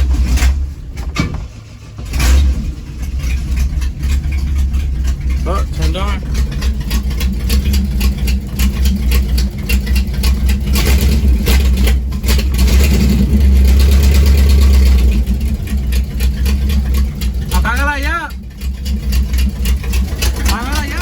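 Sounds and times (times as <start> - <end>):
rough pulsing engine rumble: 0.0 - 21.0.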